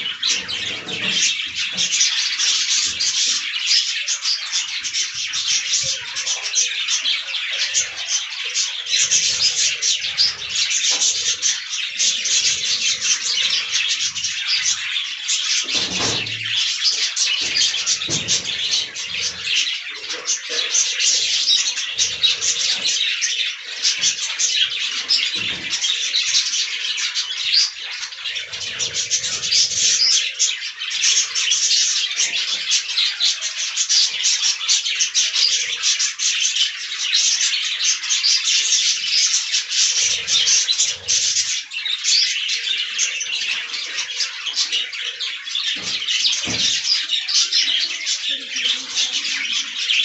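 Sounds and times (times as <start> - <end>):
budgerigars chattering: 0.0 - 50.0.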